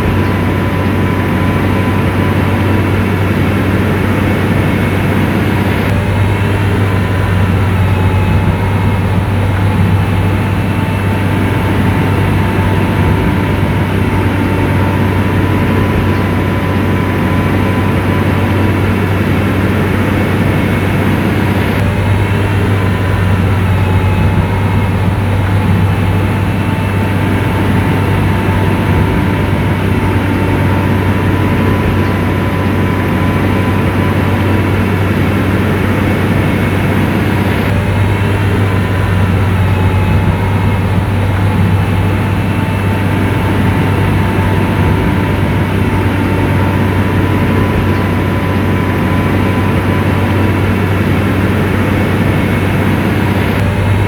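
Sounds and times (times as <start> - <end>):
diesel engine humming: 0.0 - 54.0
faint steady whine: 0.0 - 54.0.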